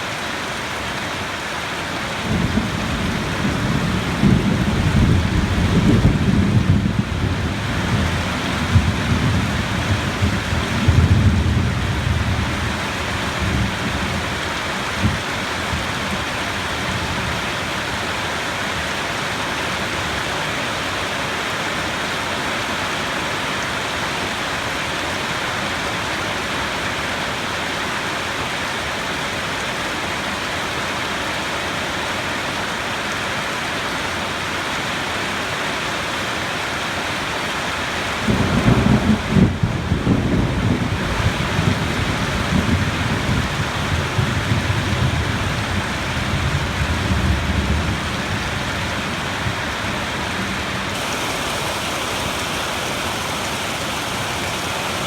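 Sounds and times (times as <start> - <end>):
heavy rainfall: 0.0 - 55.0.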